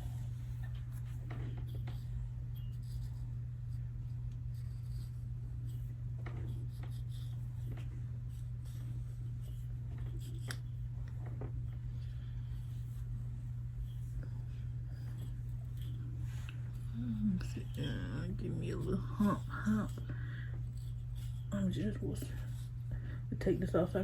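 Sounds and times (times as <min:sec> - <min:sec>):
comb scratching through hair: 0:00.0 - 0:22.9
low electrical hum: 0:00.0 - 0:24.0.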